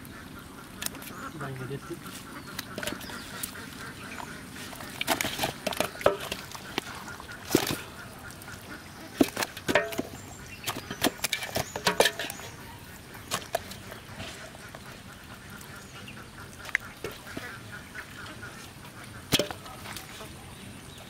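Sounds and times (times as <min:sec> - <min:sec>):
ducks quacking: 0:00.0 - 0:21.0.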